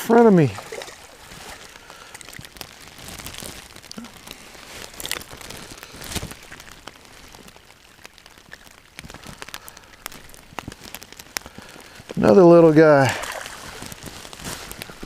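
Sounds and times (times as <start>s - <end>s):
steady rain: 0.0s - 15.0s
sharp raindrop taps: 0.5s - 15.0s.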